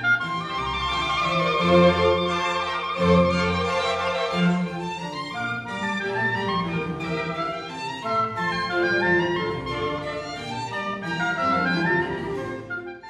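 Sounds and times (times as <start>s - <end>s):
violin melody over lower strings: 0.0s - 13.0s.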